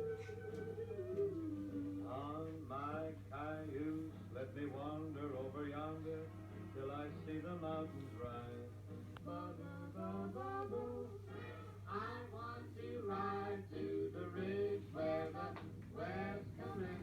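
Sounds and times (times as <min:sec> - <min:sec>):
person singing unaccompanied: 0:00.0 - 0:17.0.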